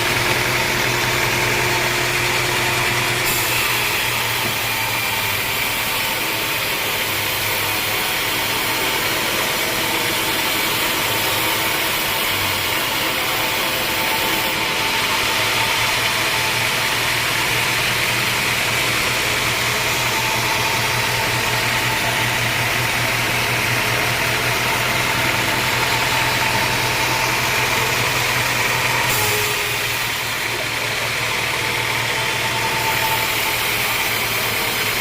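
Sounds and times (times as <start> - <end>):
band sawmill running: 0.0 - 35.0.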